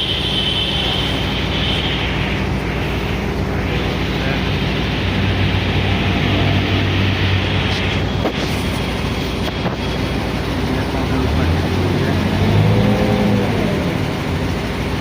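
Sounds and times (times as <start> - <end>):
heavy machine engine revving: 0.0 - 15.0.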